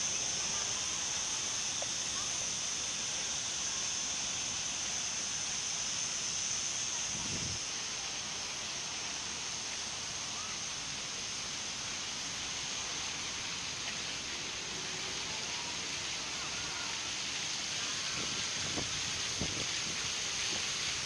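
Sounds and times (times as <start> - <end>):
fountain water splashing into basin: 0.0 - 21.0.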